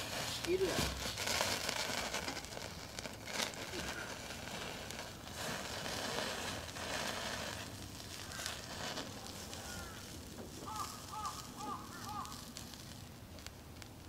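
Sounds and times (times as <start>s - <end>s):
meat sizzling and crackling in fat: 0.0s - 14.0s.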